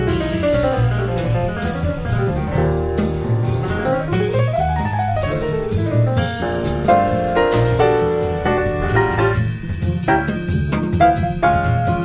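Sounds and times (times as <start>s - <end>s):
drum kit with cymbals: 0.0s - 12.0s
piano playing runs: 0.0s - 12.0s
upright bass: 0.0s - 12.0s.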